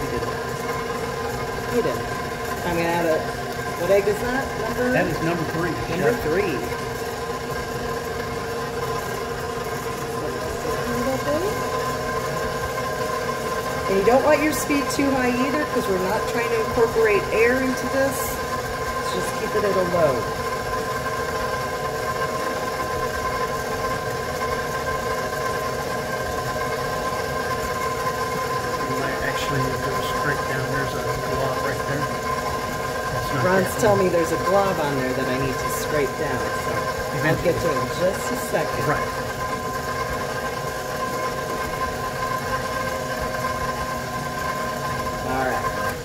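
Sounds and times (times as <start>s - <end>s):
stand mixer motor whine: 0.0s - 46.0s.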